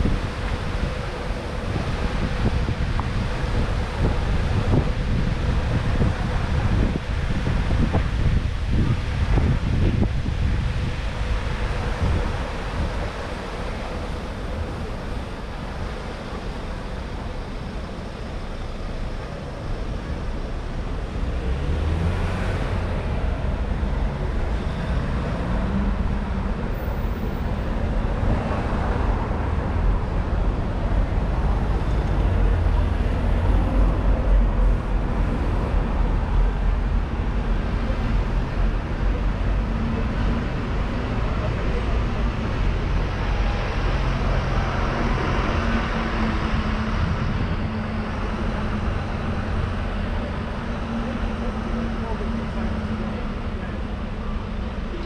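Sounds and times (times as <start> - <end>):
low engine rumble: 0.0 - 55.0
road traffic passing: 0.0 - 55.0.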